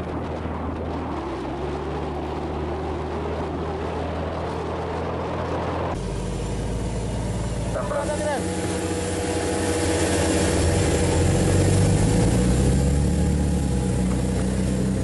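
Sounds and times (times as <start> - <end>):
boat engines running: 0.0 - 15.0
rushing water: 0.0 - 15.0
wind: 0.0 - 15.0.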